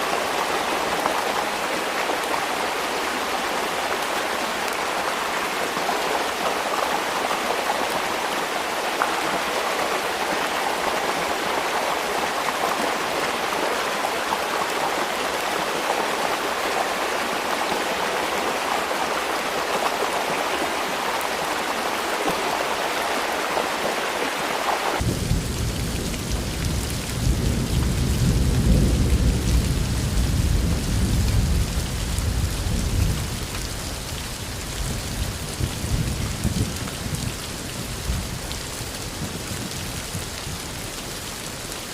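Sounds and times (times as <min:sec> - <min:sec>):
rain hiss: 0:00.0 - 0:41.9.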